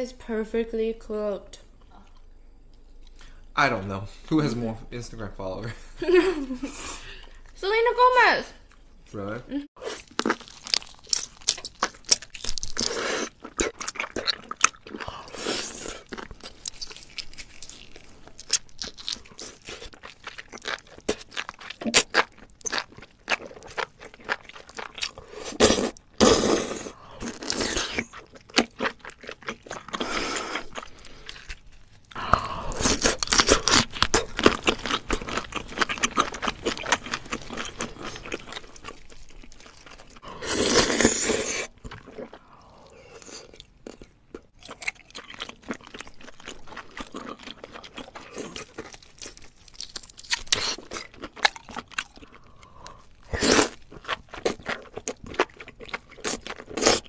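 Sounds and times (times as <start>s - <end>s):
wet chewing and slurping: 9.8s - 57.0s.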